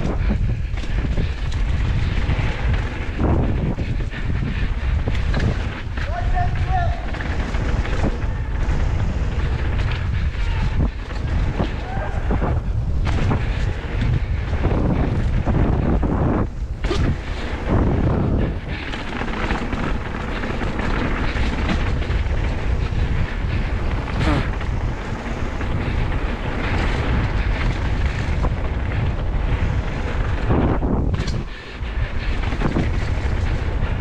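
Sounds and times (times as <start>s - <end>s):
bike knocks and rattles: 0.0s - 34.0s
bike tyre noise on dirt: 0.0s - 34.0s
wind buffeting microphone: 0.0s - 34.0s.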